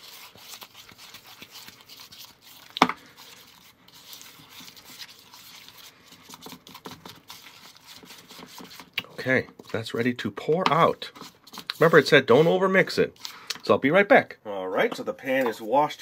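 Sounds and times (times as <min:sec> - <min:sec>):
batter scraping in a bowl: 0:00.0 - 0:13.3.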